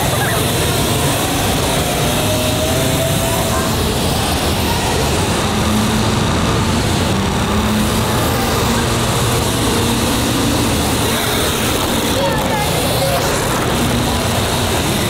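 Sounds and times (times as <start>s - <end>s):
dirt bike engines buzzing: 0.0s - 15.0s.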